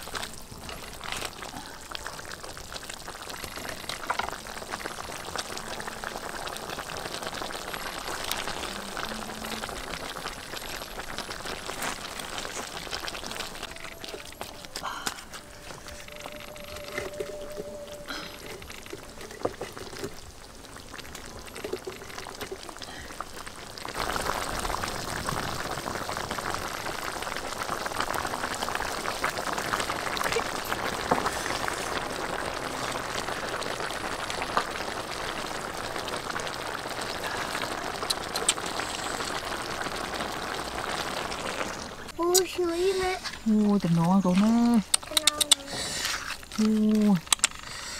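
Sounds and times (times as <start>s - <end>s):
stew boiling in a pot: 0.0s - 47.9s.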